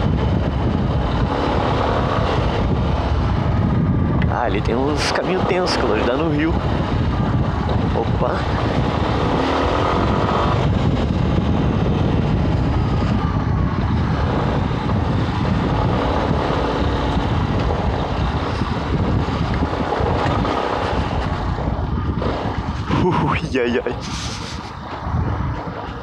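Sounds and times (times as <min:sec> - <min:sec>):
motorcycle engine: 0:00.0 - 0:26.0
wind buffeting microphone: 0:00.0 - 0:26.0.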